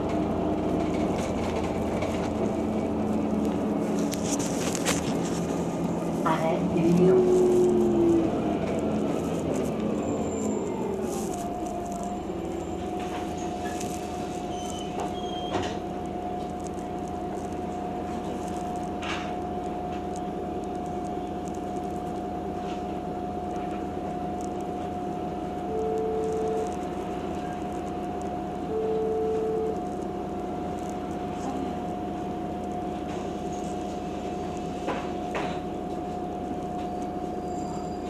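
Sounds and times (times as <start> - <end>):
bus engine slowing: 0.0 - 29.0, 30.1 - 38.0
steady high whine: 0.0 - 38.0.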